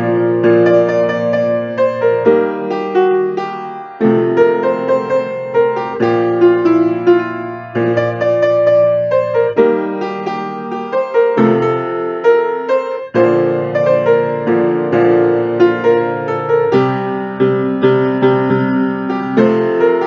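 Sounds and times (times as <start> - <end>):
piano chords and melody: 0.0 - 20.0.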